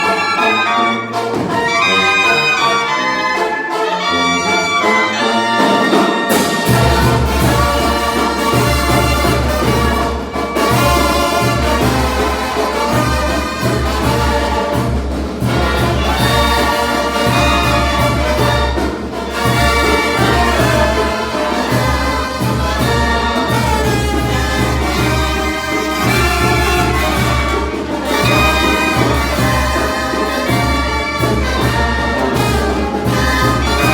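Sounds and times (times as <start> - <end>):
brass band playing: 0.0 - 33.9.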